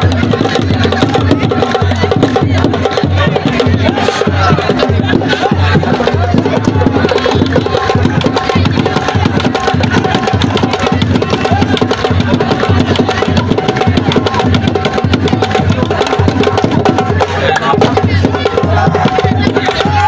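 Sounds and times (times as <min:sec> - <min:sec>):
drum ensemble fast rhythm: 0:00.0 - 0:20.0.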